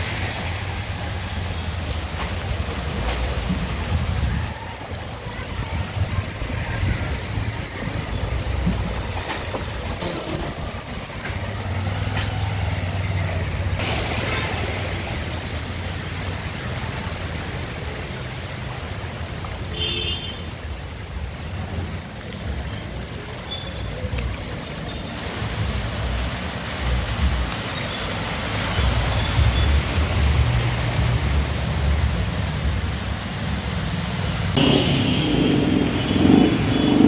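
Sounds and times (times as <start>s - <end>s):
heavy rain hiss: 0.0s - 37.0s
splashing floodwater: 0.0s - 37.0s
vehicle engines rumbling: 0.0s - 37.0s.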